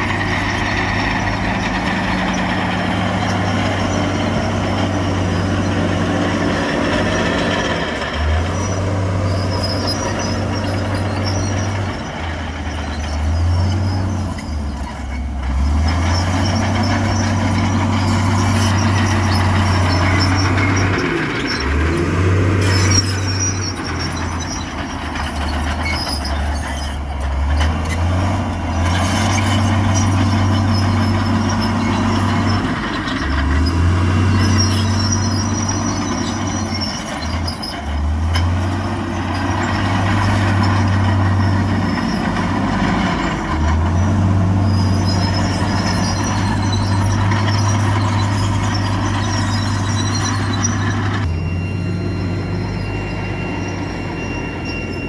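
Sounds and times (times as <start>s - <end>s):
heavy diesel engines working: 0.0s - 55.0s.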